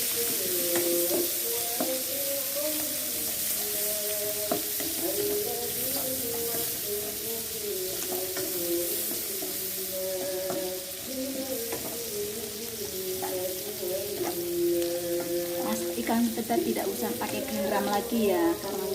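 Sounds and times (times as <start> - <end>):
oil sizzling in a pan: 0.0 - 18.9
soft background melody: 0.0 - 18.9.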